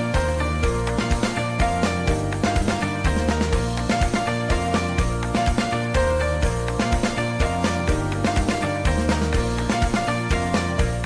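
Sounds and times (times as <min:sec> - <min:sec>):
drum hits: 0:00.0 - 0:11.0.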